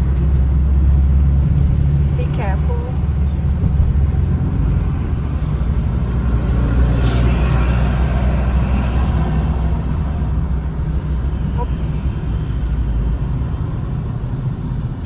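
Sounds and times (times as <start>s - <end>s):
engine and road noise: 0.0s - 15.0s.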